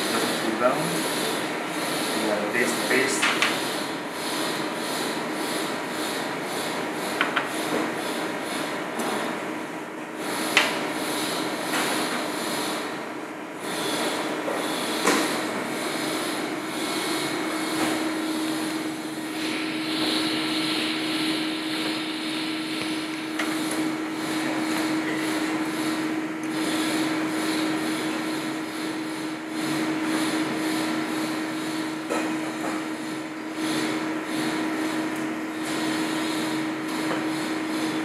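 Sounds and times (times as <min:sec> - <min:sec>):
kitchen machinery hum: 0:00.0 - 0:38.0.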